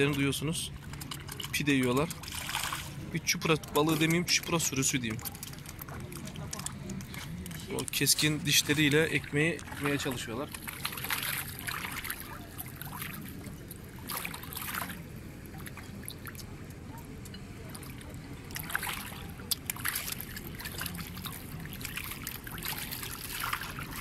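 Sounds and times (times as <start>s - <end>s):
water lapping and splashing: 0.0s - 24.0s.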